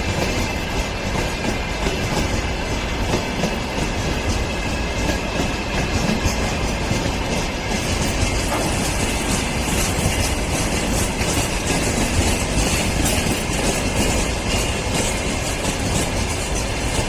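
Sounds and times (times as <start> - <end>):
freight train rumbling past: 0.0 - 17.0
wheels clicking over rail joints: 0.0 - 17.0.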